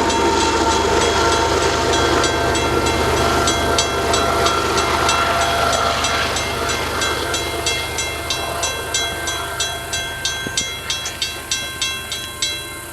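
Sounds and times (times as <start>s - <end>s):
freight train rumbling past: 0.0s - 12.9s
sharp ringing metallic strikes: 0.0s - 12.9s.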